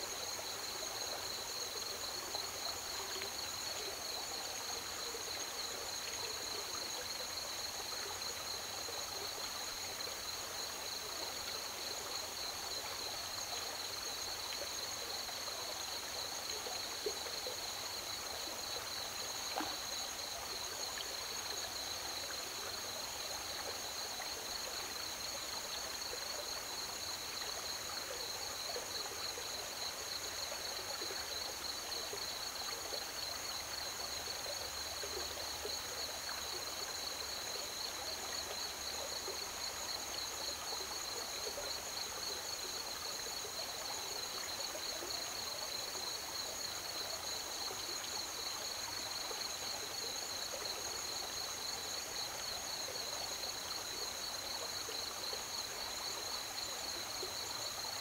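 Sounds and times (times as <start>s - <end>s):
crickets chirping: 0.0s - 58.0s
river water running: 0.0s - 58.0s.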